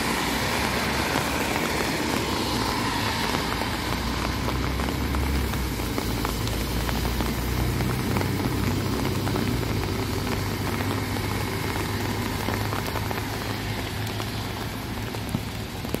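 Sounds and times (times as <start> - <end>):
bus engine accelerating: 0.0 - 16.0
rain on wet pavement: 0.0 - 16.0.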